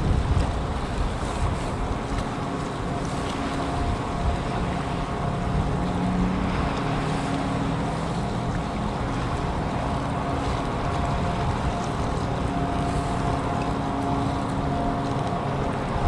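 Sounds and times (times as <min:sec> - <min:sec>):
ship engines humming: 0:00.0 - 0:16.0
wind and water noise: 0:00.0 - 0:16.0.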